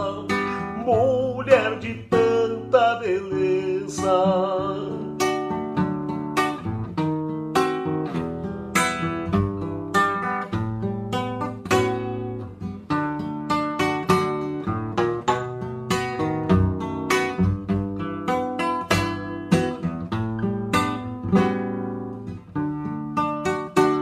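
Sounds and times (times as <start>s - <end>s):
nylon-string guitar playing: 0.0s - 24.0s.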